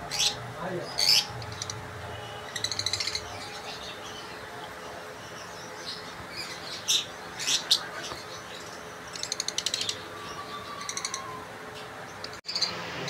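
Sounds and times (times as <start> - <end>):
lovebirds chirping: 0.0 - 12.9.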